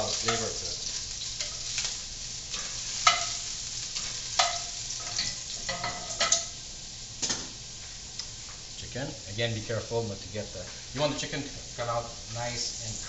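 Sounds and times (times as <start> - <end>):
sausage and onions sizzling: 0.0 - 13.0.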